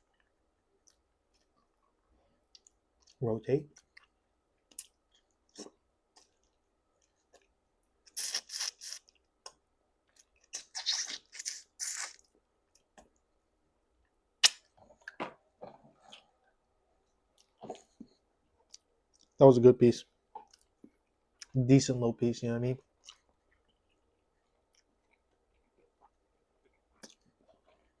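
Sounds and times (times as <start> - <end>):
person chewing food: 0.0 - 13.3, 14.4 - 19.4, 20.3 - 21.5, 22.8 - 28.0.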